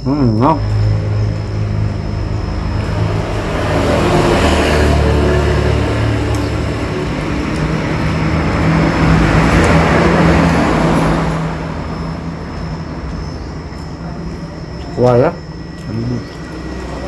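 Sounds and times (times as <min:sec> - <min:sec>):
vehicles passing with tyre noise: 0:00.2 - 0:17.0.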